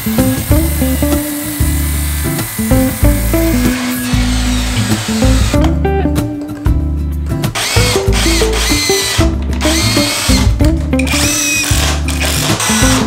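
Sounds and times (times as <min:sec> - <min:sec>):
cordless drill whining: 0:00.0 - 0:05.6, 0:07.6 - 0:13.0
background music: 0:00.0 - 0:13.0.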